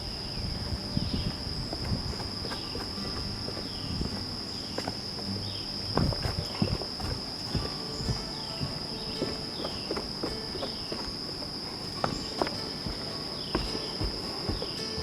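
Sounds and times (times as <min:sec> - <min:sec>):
footsteps on trail: 0:00.0 - 0:15.0
high insect drone: 0:00.0 - 0:15.0.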